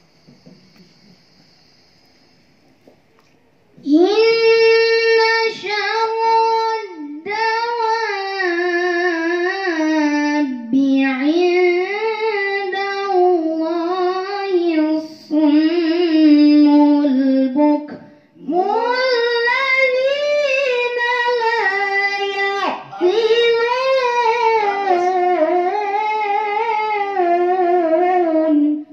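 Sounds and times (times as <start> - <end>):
high voice reciting melodically: 3.8 - 28.9.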